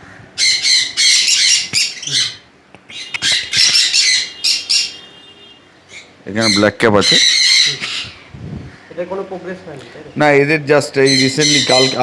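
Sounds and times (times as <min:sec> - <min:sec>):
parrots squawking: 0:00.0 - 0:10.1, 0:10.9 - 0:12.0.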